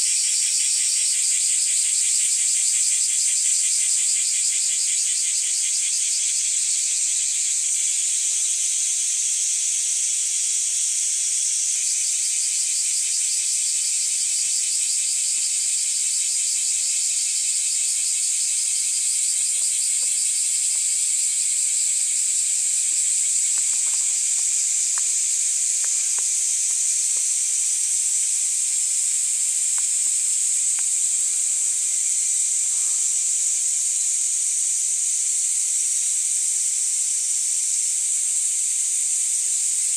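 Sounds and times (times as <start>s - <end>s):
chorus of singing insects: 0.0s - 39.9s.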